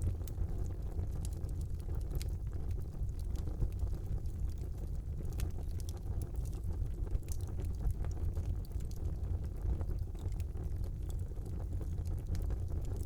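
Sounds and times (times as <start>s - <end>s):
fire flames rumbling: 0.0s - 13.0s
logs crackling and popping: 0.0s - 13.0s.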